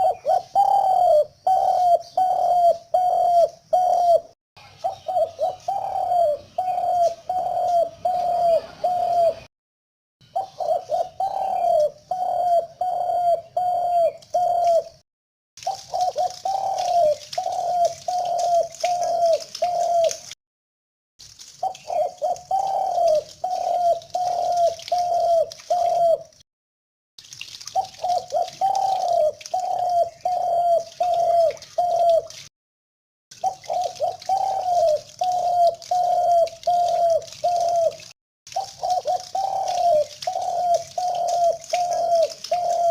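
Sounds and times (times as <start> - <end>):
dove cooing: 0.0 - 9.5, 10.3 - 15.0, 15.6 - 20.2, 21.6 - 26.3, 27.8 - 32.3, 33.4 - 42.9.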